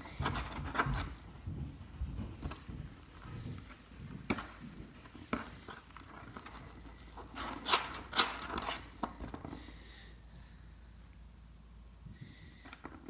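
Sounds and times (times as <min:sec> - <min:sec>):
scraping and rustling: 0:00.0 - 0:13.0.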